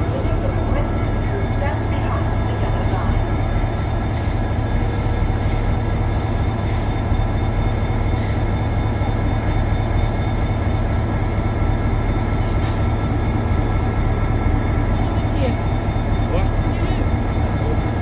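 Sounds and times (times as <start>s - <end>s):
diesel locomotive idling: 0.0s - 18.0s.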